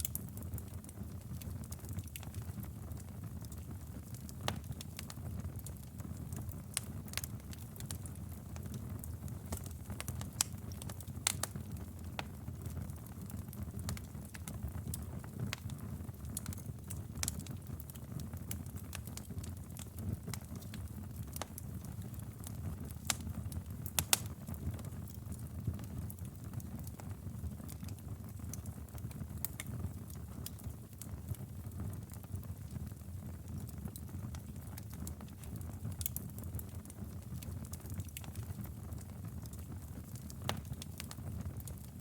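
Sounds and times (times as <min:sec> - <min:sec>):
fire snaps and pops: 0:00.0 - 0:42.0
low rumble of flames: 0:00.0 - 0:42.0.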